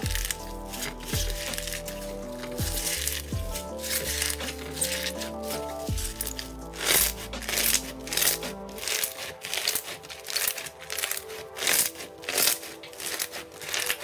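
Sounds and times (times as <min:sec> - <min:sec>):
background music with held notes: 0:00.0 - 0:14.0
foam slime crackling and crunching: 0:00.0 - 0:14.0.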